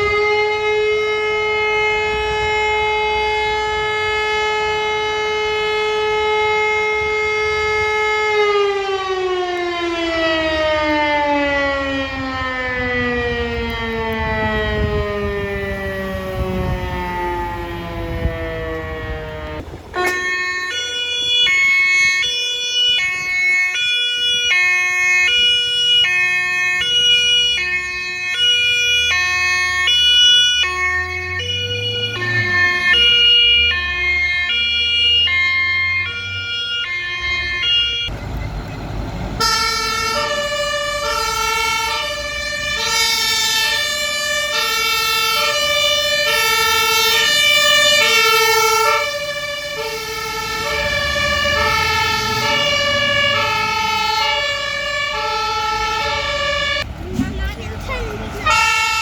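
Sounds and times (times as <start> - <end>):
two-tone emergency horns: 0.0 - 38.8, 39.4 - 56.9, 58.3 - 59.0
vehicle engine rumbling: 0.0 - 59.0.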